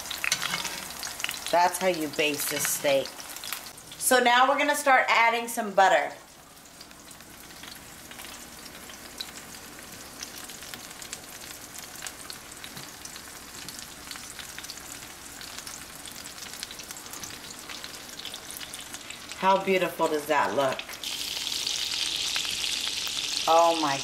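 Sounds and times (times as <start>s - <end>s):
steak sizzling in skillet: 0.0s - 4.9s, 5.6s - 24.0s
butter frying: 0.0s - 24.0s.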